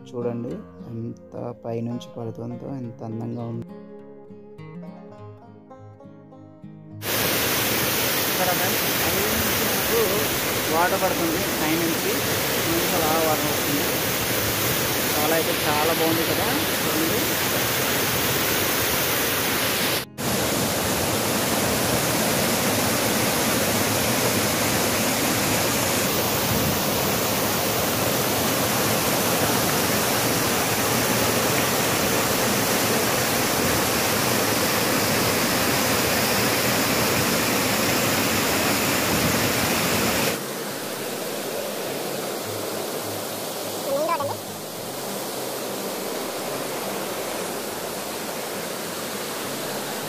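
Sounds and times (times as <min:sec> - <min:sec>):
waterfall rushing over rocks: 0:07.0 - 0:50.0.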